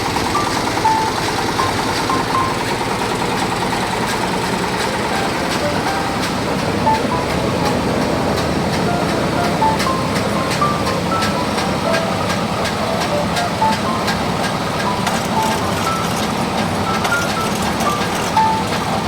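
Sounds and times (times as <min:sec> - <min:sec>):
grinding machine running: 0:00.0 - 0:19.0.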